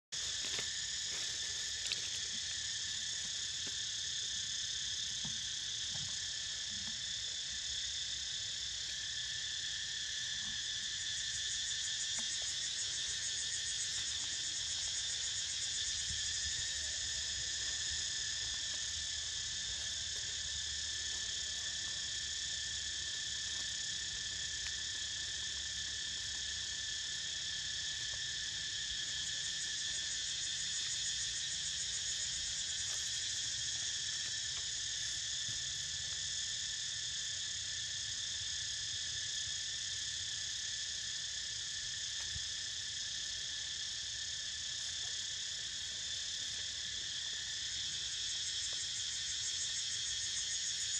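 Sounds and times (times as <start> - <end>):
cicadas calling in chorus: 0.0 - 50.9.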